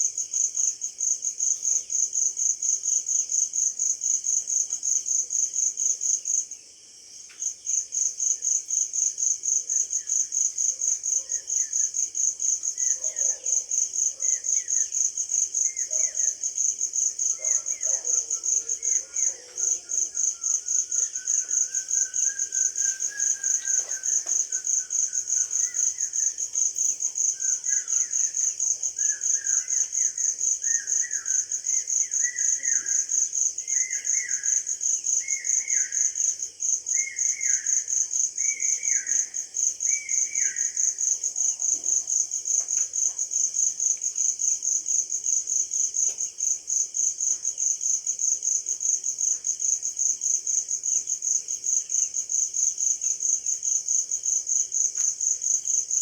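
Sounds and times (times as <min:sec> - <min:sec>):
cricket trilling: 0:07.7 - 0:56.0.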